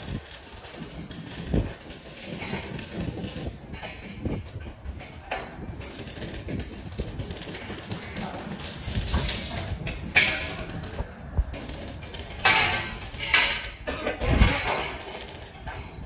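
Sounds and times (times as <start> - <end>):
sheet metal clanking and scraping: 0.0 - 16.0.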